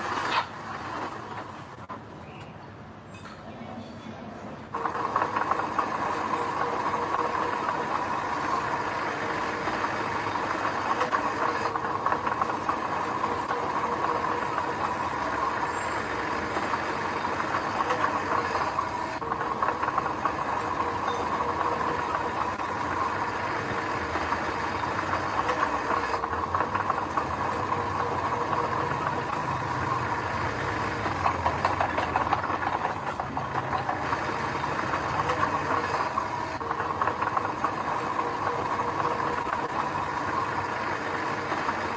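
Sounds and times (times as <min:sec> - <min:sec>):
diesel machinery engine clattering: 0:00.0 - 0:41.9.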